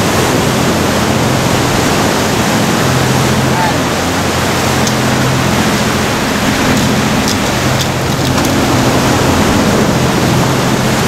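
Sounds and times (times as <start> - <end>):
low hum: 0.0 - 11.0
waves washing over rocks: 0.0 - 11.0.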